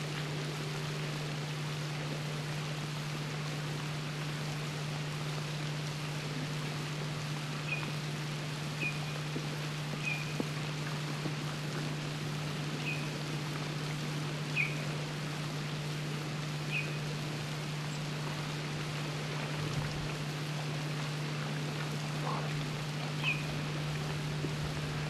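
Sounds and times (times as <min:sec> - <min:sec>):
flowing creek rushing: 0:00.0 - 0:25.0
low steady hum: 0:00.0 - 0:25.0.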